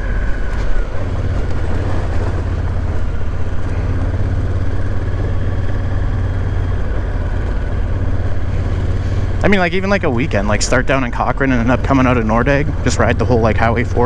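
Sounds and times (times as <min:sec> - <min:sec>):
motorcycle engine drone: 0:00.0 - 0:14.0
wind and tyre noise: 0:00.0 - 0:14.0.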